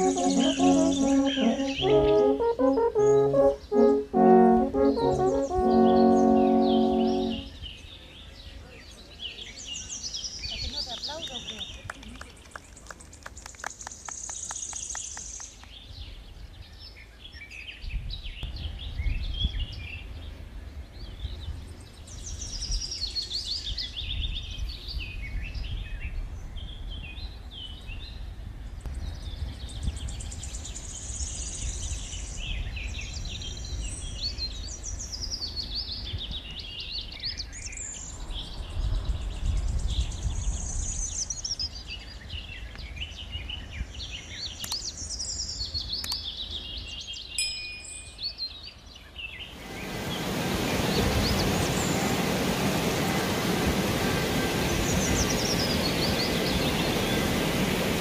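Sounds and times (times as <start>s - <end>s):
songbirds singing and chirping: 0.0s - 58.0s.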